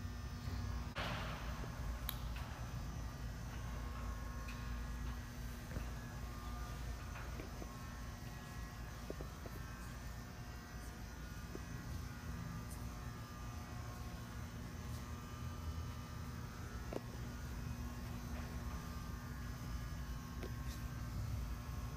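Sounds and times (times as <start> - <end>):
low hum and buzz: 0.0 - 21.9.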